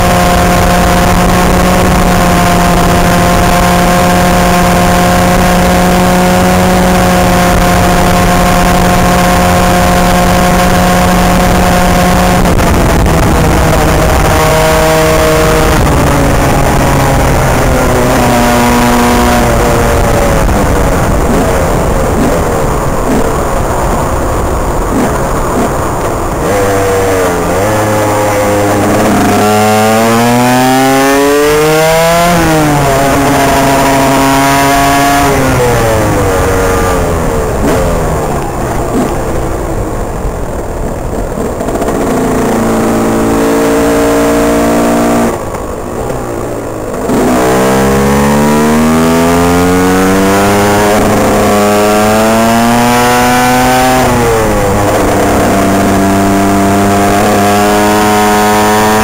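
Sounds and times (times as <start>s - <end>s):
motorcycle engine accelerating: 0.0s - 59.0s
wind on microphone: 0.0s - 59.0s.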